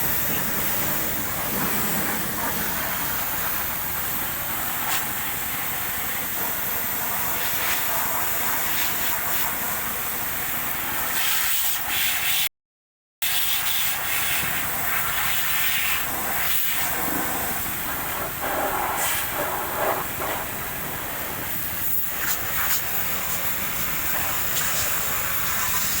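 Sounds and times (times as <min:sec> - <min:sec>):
pressure washer spraying water: 0:00.0 - 0:12.4, 0:13.2 - 0:26.0.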